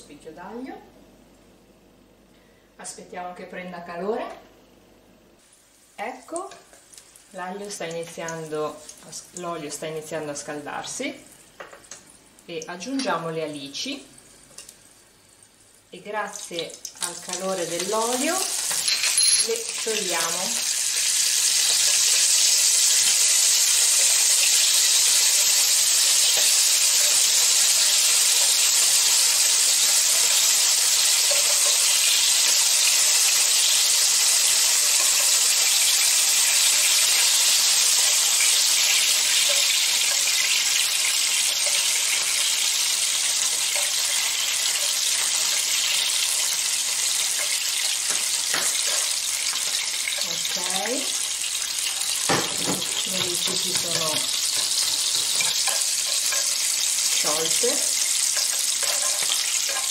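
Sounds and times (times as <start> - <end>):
fish sizzling in oil: 5.4 - 13.0, 13.6 - 59.9.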